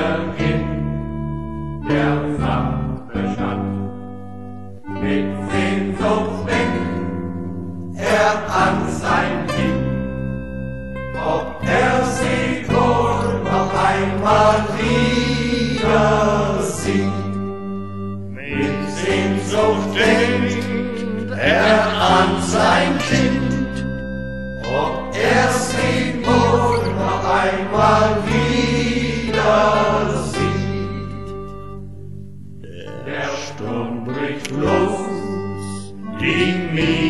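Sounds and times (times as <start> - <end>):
choir singing folk song: 0.0 - 31.8, 32.9 - 37.0
instrumental accompaniment: 0.0 - 37.0.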